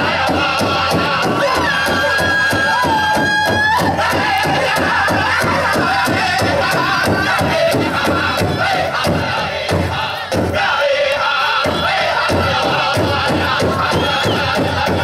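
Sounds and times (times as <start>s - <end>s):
big drum fast beat: 0.0s - 10.8s, 11.6s - 15.0s
singers chanting high vocables: 0.0s - 15.0s.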